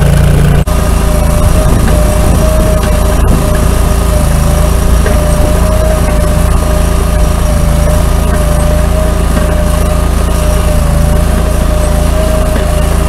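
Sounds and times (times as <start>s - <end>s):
digging chain whining: 0.0s - 13.0s
trencher engine running: 0.0s - 13.0s.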